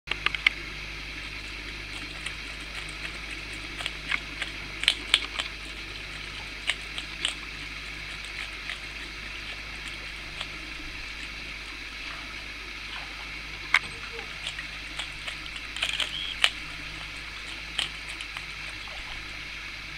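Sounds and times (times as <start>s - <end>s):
otter crunching fish: 0.1s - 19.9s
water hiss: 0.2s - 19.9s.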